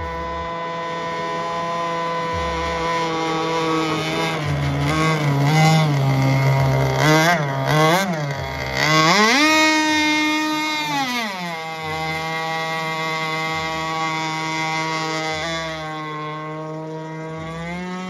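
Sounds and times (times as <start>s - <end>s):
two-stroke model boat engine: 0.0s - 18.0s.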